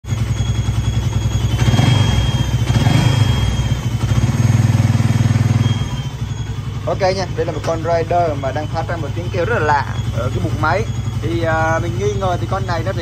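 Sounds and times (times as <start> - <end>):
motorcycle engine running: 0.0 - 13.0
high-pitched chirping squeal: 0.1 - 13.0.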